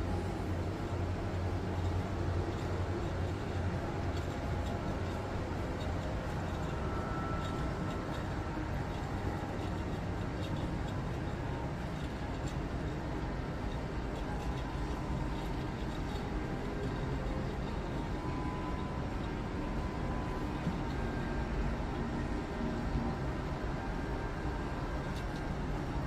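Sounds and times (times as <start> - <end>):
low rumbling casino background: 0.0 - 26.0.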